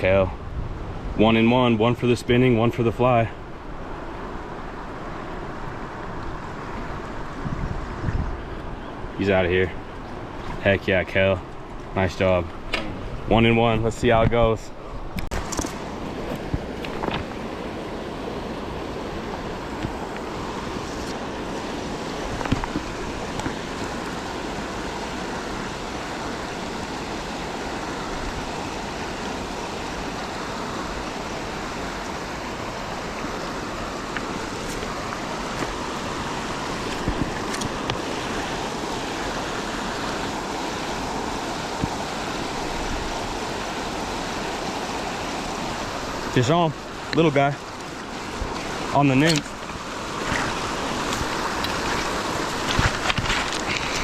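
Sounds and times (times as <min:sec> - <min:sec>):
flowing creek water: 0:00.0 - 0:54.0.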